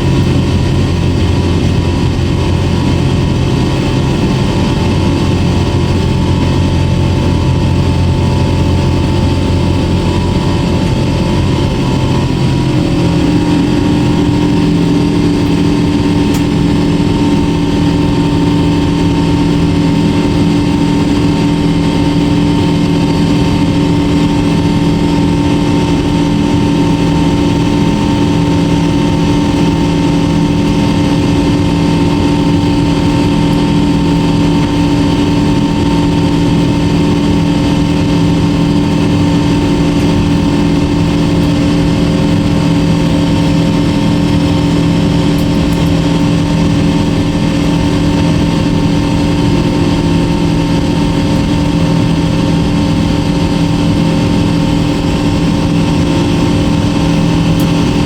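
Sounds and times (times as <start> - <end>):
constant engine hums: 0.0 - 58.0
jet engine cabin rush: 0.0 - 58.0.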